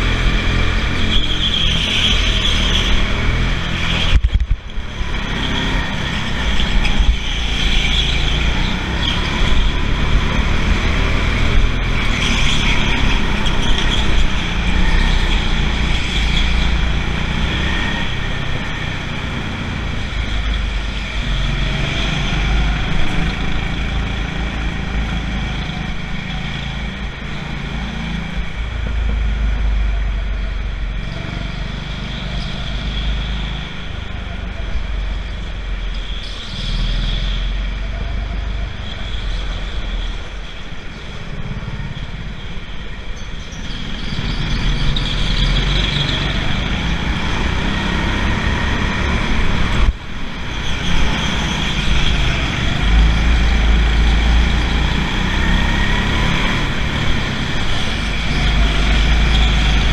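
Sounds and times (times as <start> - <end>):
go-kart engine: 0.0 - 59.9.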